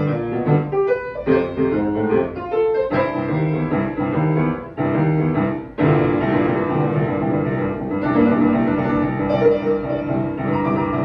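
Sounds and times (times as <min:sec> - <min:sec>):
grand piano playing boogie: 0:00.0 - 0:11.0.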